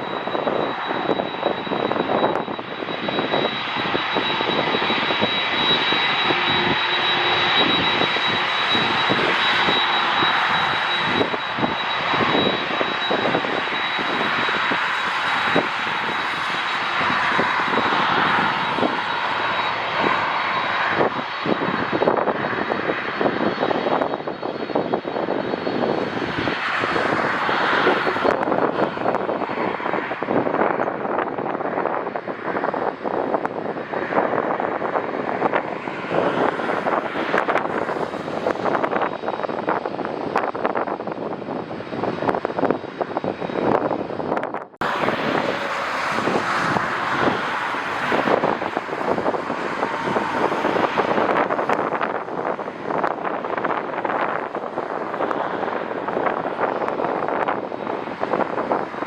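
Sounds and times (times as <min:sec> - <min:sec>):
jet airliner passing: 0:00.0 - 0:59.0
wind buffeting microphone: 0:00.0 - 0:59.0.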